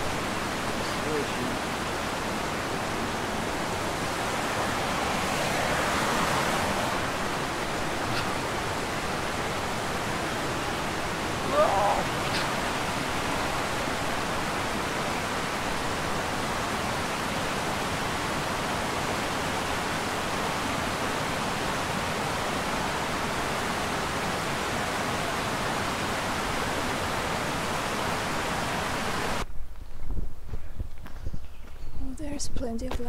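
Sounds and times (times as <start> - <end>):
river water rushing: 0.0 - 29.5.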